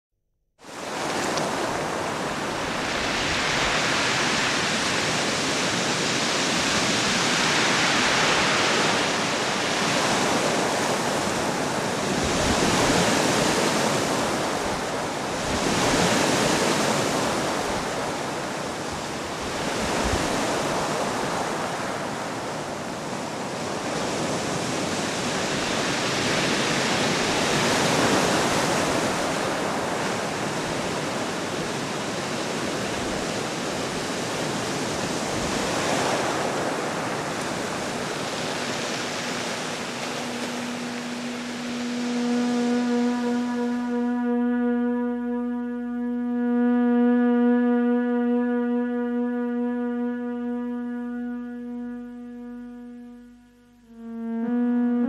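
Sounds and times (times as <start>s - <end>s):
waves breaking: 0.6s - 46.3s.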